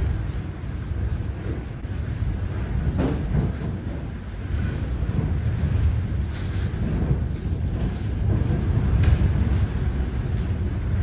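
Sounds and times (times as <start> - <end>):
strong wind buffeting house: 0.0 - 11.0.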